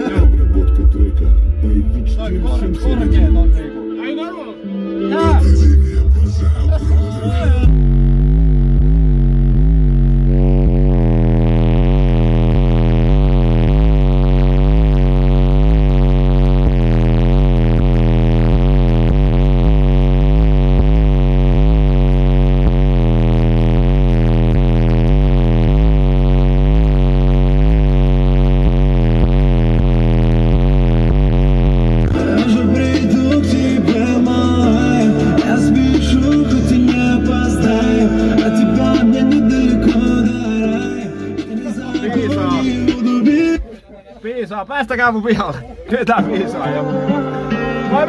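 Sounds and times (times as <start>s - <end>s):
bass-heavy electronic music: 0.0s - 48.0s.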